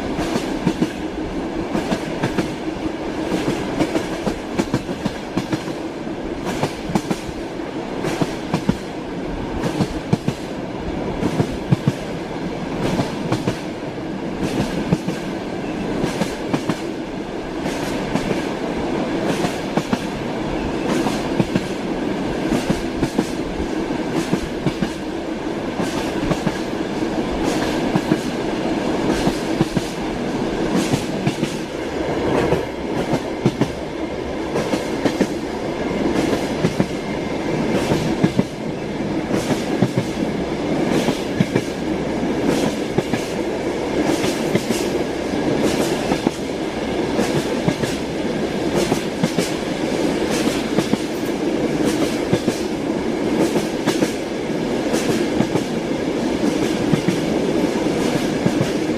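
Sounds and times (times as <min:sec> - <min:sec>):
train carriage rumble: 0:00.0 - 0:58.9.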